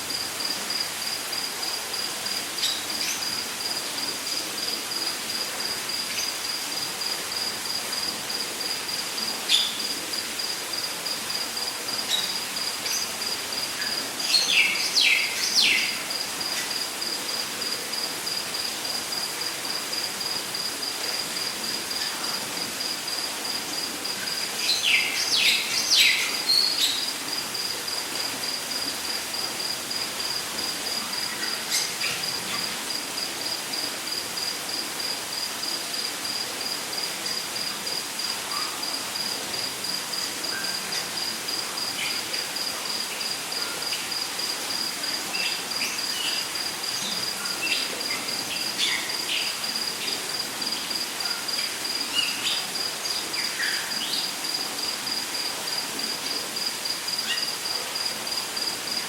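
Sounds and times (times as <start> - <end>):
constant hiss: 0.0 - 59.0.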